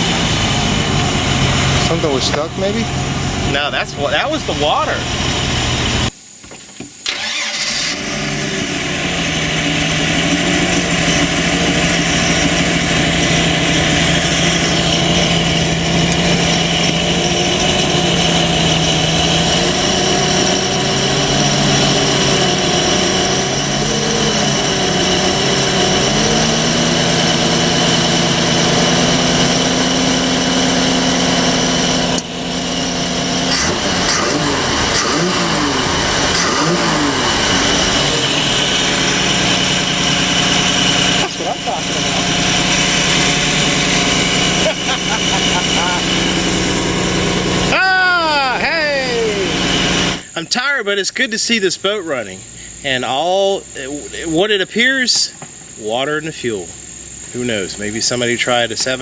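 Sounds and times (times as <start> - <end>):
boat engine revving: 0.0 - 6.2, 7.0 - 50.4.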